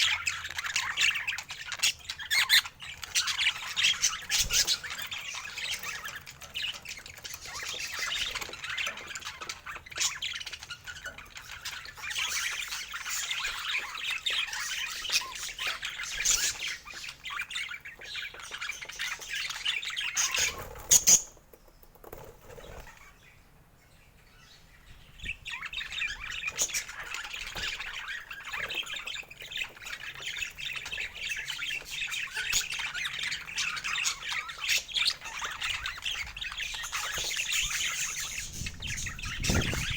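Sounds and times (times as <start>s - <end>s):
parakeet chattering: 0.0s - 21.4s, 25.2s - 39.9s.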